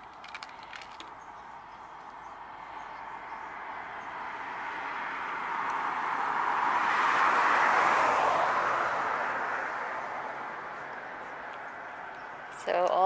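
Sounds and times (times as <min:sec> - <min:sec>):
car driving past: 0:01.8 - 0:12.6.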